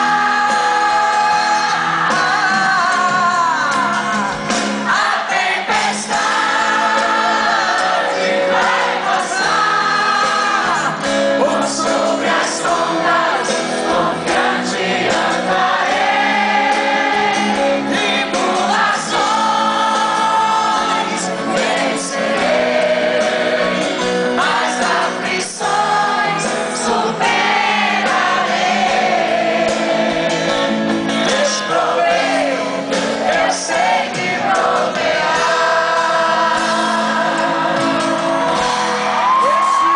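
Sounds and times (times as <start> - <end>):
sustained instrumental accompaniment: 0.0 - 39.9
voices singing gospel song: 0.0 - 39.9.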